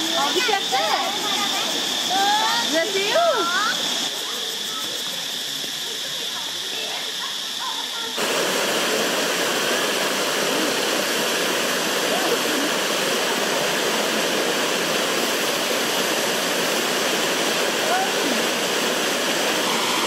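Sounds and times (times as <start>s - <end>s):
water rushing down waterfall: 0.0s - 4.2s, 8.1s - 20.0s.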